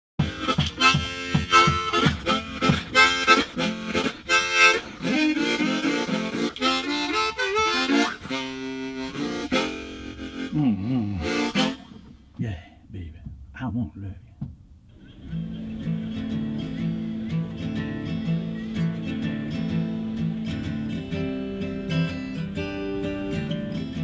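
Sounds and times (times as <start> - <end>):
harmonica chords: 0.2 - 13.2, 14.9 - 24.0.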